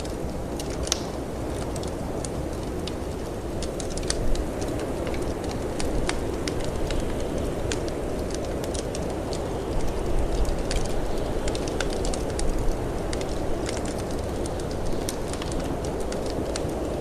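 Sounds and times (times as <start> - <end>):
storm wind gusting: 0.0 - 17.0
wood fire crackling: 0.0 - 17.0.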